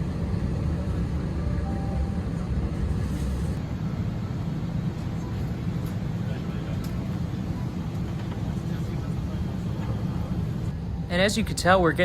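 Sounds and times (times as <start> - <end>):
aircraft cabin ventilation rumble: 0.0 - 12.0.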